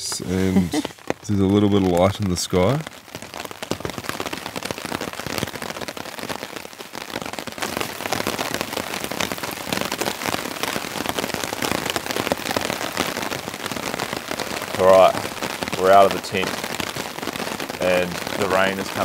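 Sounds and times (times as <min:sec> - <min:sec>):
rain on a tent: 0:00.0 - 0:19.0.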